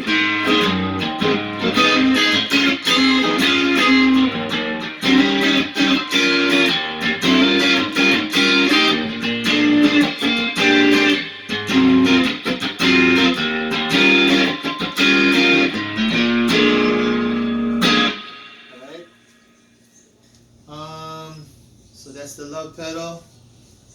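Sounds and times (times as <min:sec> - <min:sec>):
distorted electric guitar chords: 0:00.0 - 0:19.6.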